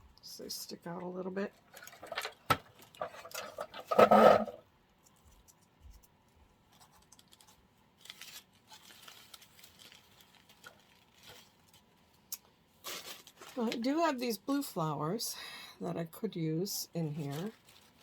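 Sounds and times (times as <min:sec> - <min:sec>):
artificial flower stems rustling: 0:00.9 - 0:14.6, 0:16.9 - 0:18.0.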